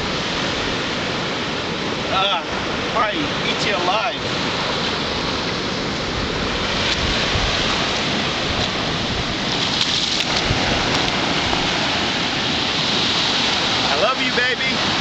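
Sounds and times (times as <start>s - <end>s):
water rushing and bubbling: 0.0s - 15.0s.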